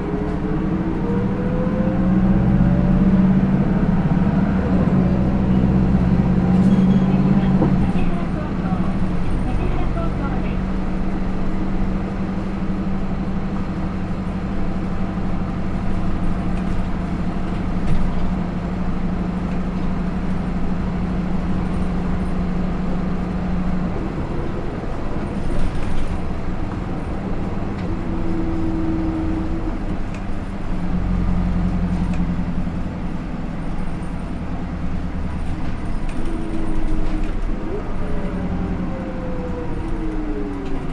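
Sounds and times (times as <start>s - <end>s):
bus engine hum from inside: 0.0s - 40.9s.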